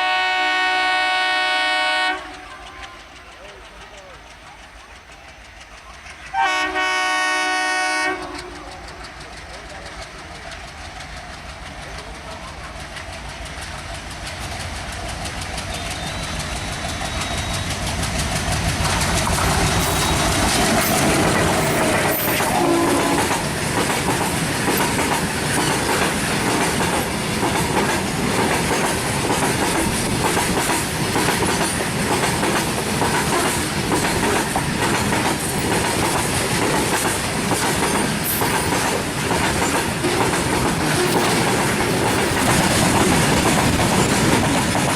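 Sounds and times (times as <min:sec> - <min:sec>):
freight train passing: 0:00.0 - 0:44.9
steel wheels clacking over rail joints: 0:02.1 - 0:06.9, 0:07.5 - 0:44.9.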